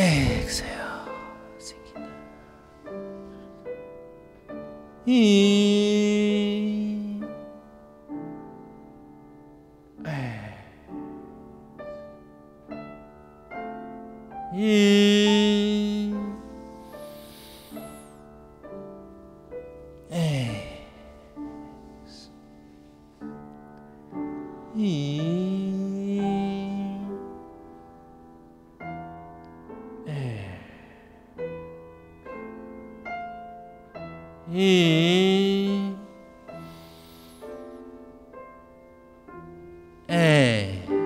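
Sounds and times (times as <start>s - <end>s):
slow piano notes: 0.0s - 41.0s.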